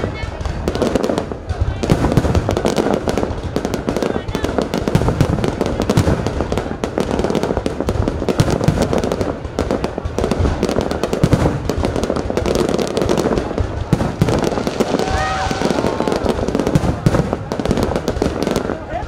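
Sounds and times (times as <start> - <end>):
deep fireworks booms: 0.0 - 19.0
fireworks bangs and crackles: 0.0 - 19.0.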